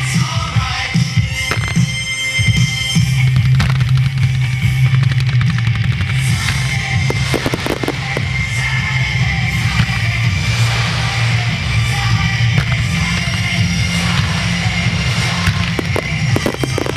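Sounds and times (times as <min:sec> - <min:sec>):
fireworks bursting and crackling: 0:00.0 - 0:16.9
loud rock music: 0:00.0 - 0:16.9.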